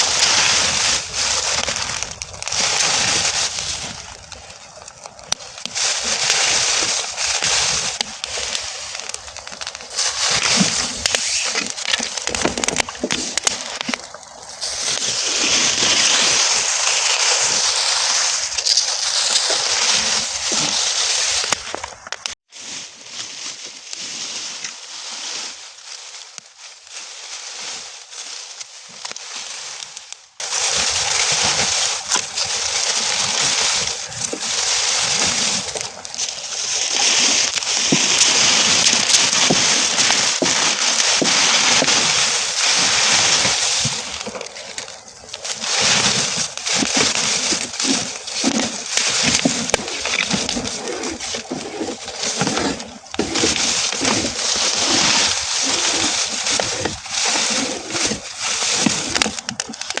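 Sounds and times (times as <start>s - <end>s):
burning straw crackling: 0.0s - 60.0s.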